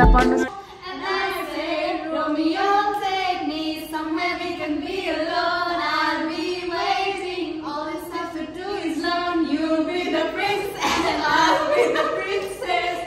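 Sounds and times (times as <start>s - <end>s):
women singing into microphone: 0.0s - 13.0s.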